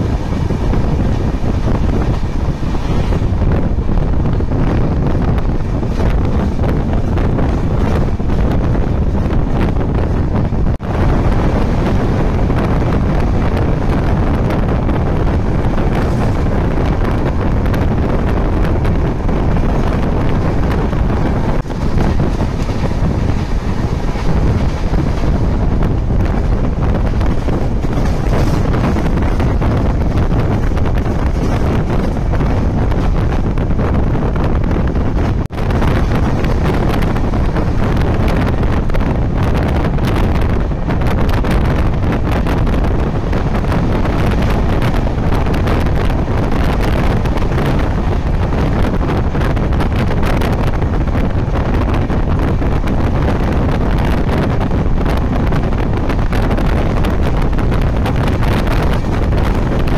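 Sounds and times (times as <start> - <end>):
train rumbling along track: 0.0 - 59.9
wind buffeting microphone: 0.0 - 59.9.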